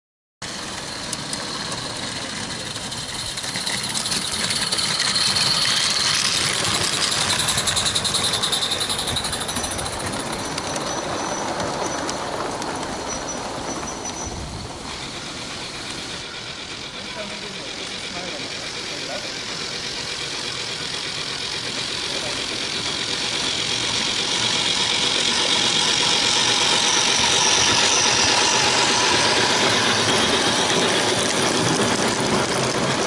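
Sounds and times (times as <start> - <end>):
model locomotive chuffing: 0.4 - 33.0.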